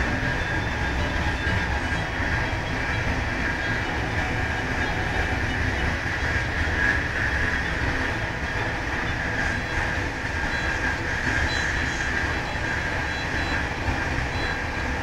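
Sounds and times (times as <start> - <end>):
constant high hum: 0.0 - 15.0
train rolling rumble: 0.0 - 15.0.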